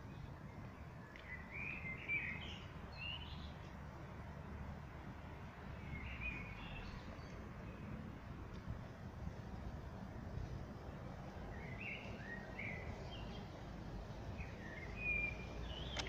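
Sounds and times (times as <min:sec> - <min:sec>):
low outdoor rumble: 0:00.0 - 0:16.0
small birds chirping: 0:00.0 - 0:16.0.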